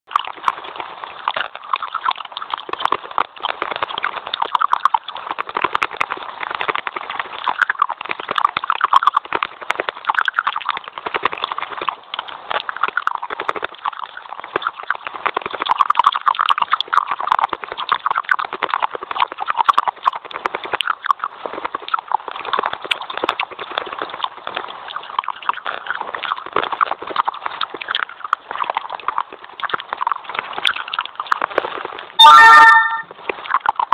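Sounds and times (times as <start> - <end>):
clay sticks crunching when chewed: 0.1 - 33.9.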